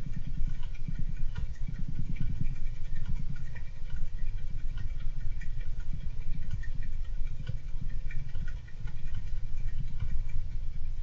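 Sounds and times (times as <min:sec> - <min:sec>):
hamster clicks and scratches: 0:00.0 - 0:11.0.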